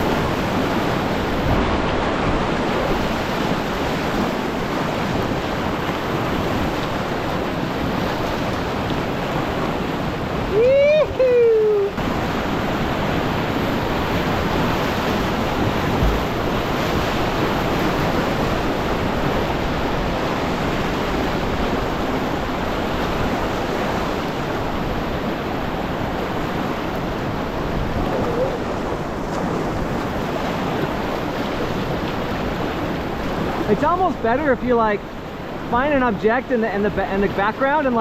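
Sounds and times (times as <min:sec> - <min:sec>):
river whitewater rushing: 0:00.0 - 0:38.0.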